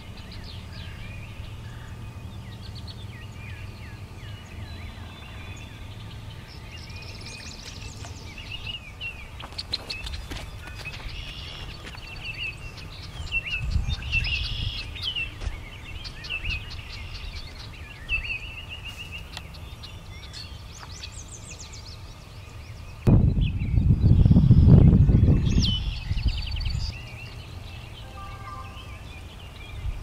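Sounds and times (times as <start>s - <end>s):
songbirds chirping and singing: 0.0s - 30.0s.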